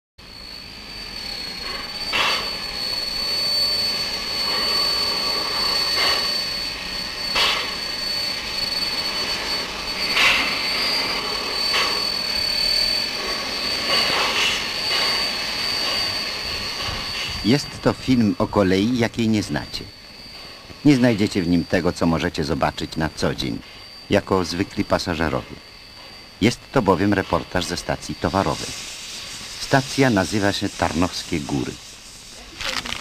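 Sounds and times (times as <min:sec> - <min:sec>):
steam locomotive venting steam: 0:00.2 - 0:33.0
thin high tone: 0:00.2 - 0:33.0.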